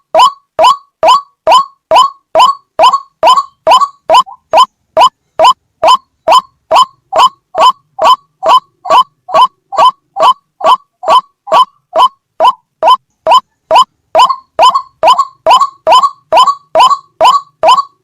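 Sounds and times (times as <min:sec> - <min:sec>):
waterhen calling: 0:00.2 - 0:18.0.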